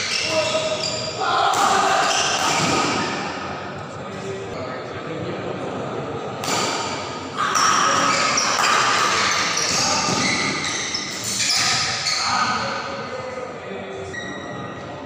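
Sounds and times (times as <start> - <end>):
crowd talking and shouting: 0.0 - 15.0.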